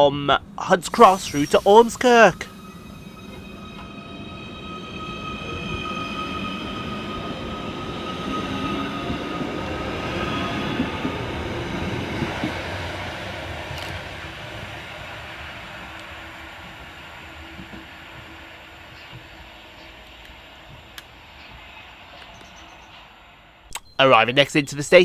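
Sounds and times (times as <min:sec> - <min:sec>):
train running noise: 0:00.0 - 0:23.3
electric train whine: 0:00.0 - 0:23.6.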